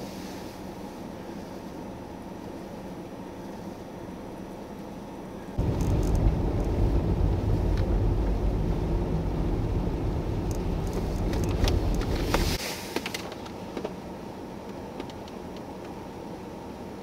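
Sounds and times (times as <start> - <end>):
quiet hiss: 0.0 - 17.0
car engine and tyres rumbling: 0.3 - 16.0.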